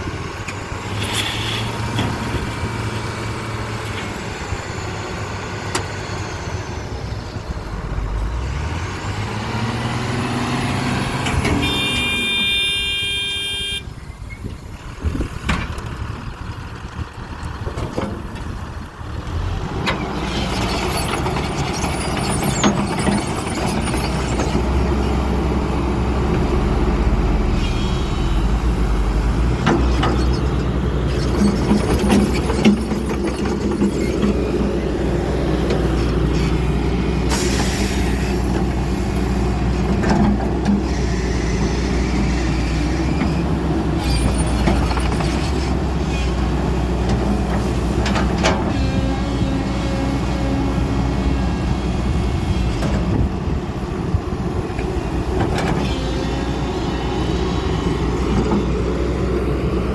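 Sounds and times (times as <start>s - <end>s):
excavator diesel engine drone: 0.0s - 59.9s.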